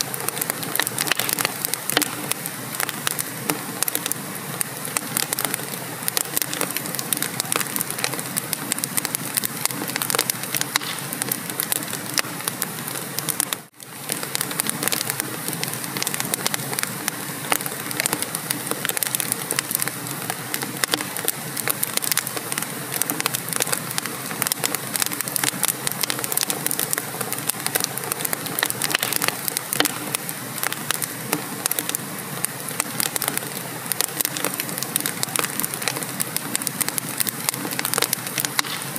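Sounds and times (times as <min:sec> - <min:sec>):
fire hiss: 0:00.0 - 0:38.9
wood fire crackling and popping: 0:00.0 - 0:38.9.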